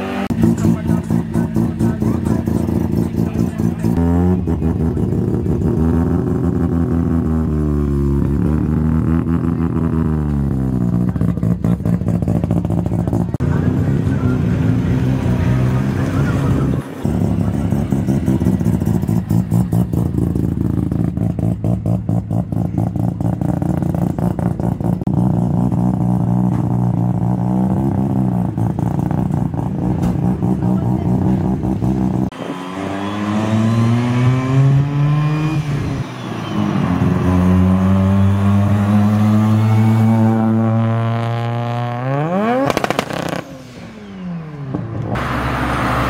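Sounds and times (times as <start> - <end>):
car accelerating: 0.0 - 46.0
sports car engines revving: 0.0 - 46.0.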